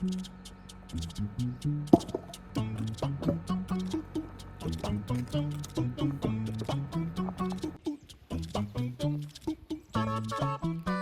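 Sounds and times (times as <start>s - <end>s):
light bouncy melody: 0.0s - 11.0s.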